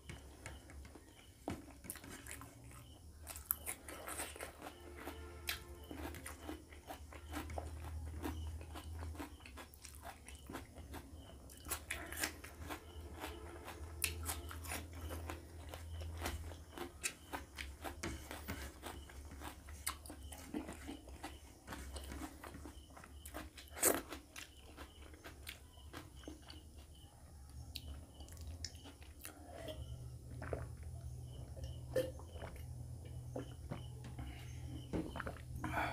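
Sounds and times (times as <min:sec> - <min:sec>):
person chewing crunchily: 0:01.0 - 0:27.0, 0:27.7 - 0:34.0, 0:34.6 - 0:35.9.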